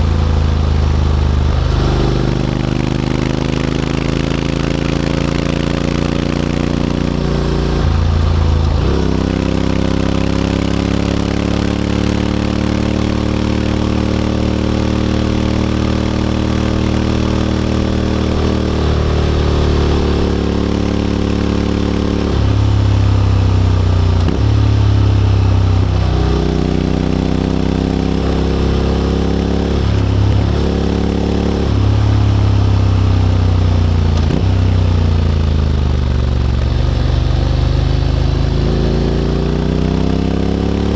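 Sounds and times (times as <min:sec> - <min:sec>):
motorcycle engine changing gear: 0:00.2 - 0:40.9.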